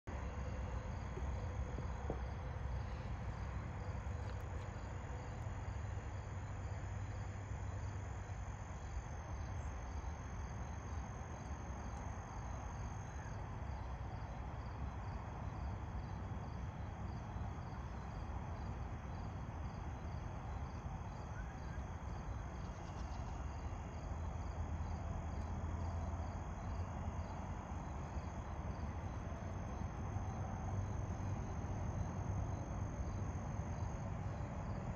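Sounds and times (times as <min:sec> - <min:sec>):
low steady rumble: 0:00.0 - 0:34.9
crickets chirping: 0:00.1 - 0:34.9.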